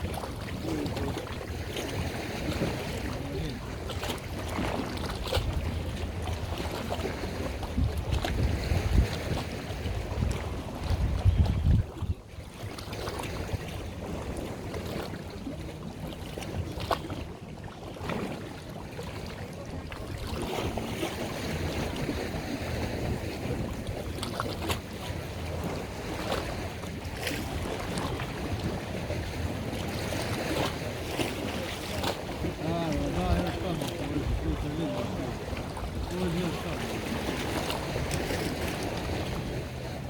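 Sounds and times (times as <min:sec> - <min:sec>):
wind buffeting microphone: 0:00.0 - 0:17.4, 0:19.6 - 0:40.0
small boat motor rumbling: 0:00.0 - 0:40.0
water washing along hull: 0:00.0 - 0:40.0.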